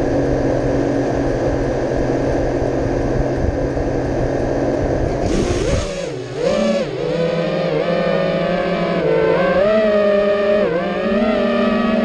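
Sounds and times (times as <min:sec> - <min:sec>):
quadcopter motors and propellers: 0:00.0 - 0:12.0.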